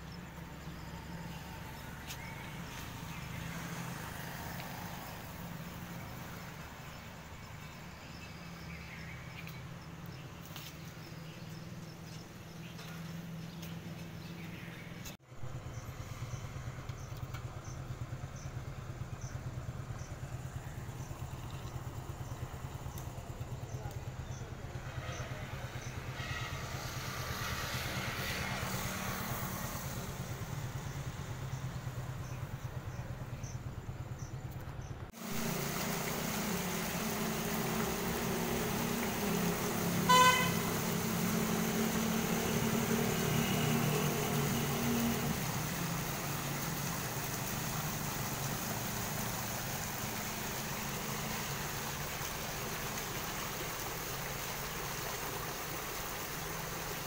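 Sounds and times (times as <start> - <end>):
road noise: 0.0 - 57.0
vehicle engine humming: 0.0 - 57.0.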